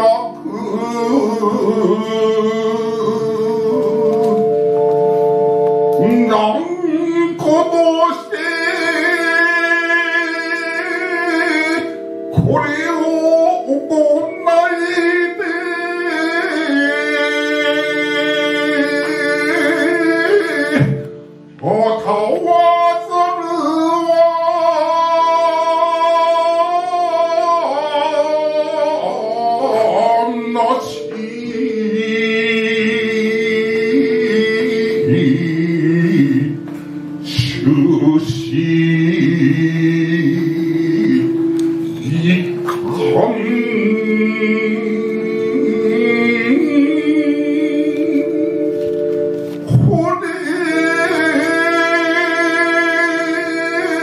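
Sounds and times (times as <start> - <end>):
held accompaniment tones: 0.0 - 54.0.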